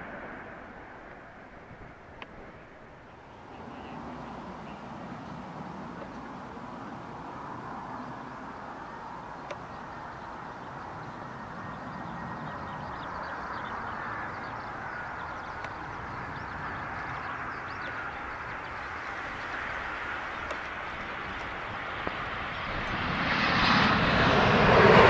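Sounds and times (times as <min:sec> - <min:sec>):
jet engines rushing with whine: 0:00.0 - 0:25.0.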